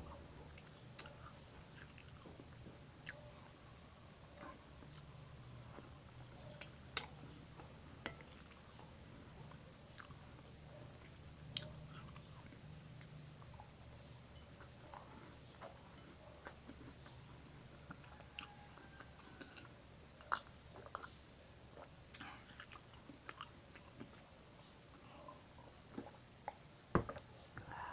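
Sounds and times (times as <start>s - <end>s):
low steady hum: 0.0s - 27.9s
chewing crunchy food: 0.1s - 26.6s.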